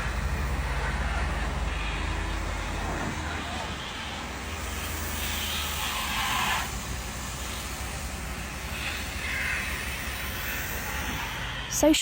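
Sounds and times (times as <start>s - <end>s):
road traffic hum: 0.0s - 12.0s
vehicles passing: 0.0s - 12.0s.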